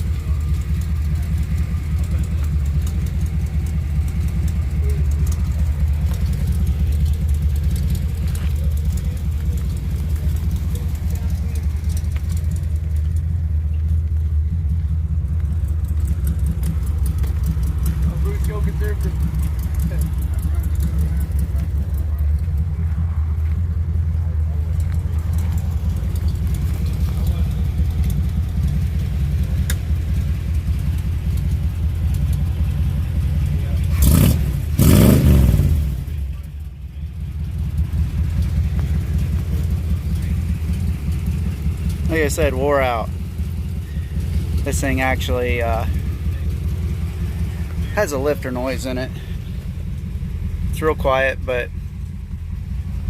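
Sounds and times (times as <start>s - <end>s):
car engine idling: 0.0s - 53.0s
quiet engine lifter noise: 0.0s - 53.0s.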